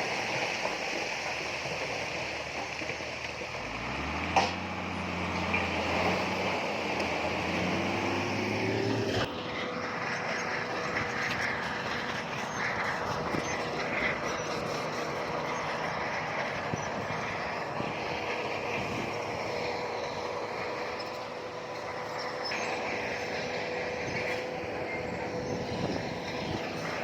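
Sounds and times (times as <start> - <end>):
diesel machinery engine rumbling: 0.0 - 27.0.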